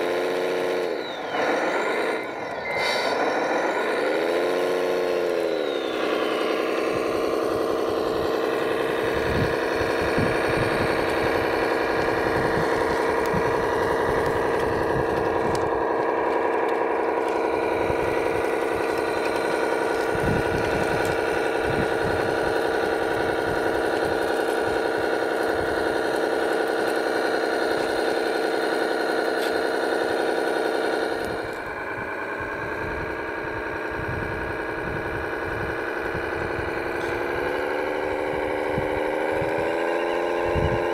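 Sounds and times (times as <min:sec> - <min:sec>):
simulated diesel engine: 0:00.0 - 0:40.9.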